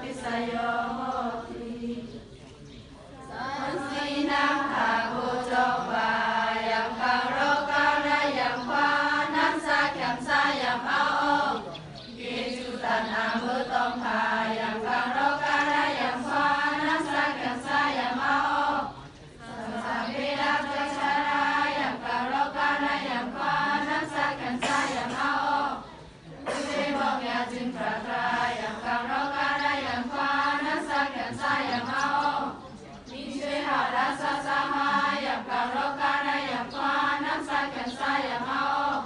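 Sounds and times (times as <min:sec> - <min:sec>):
women chanting in unison: 0:00.0 - 0:02.4, 0:03.0 - 0:39.0.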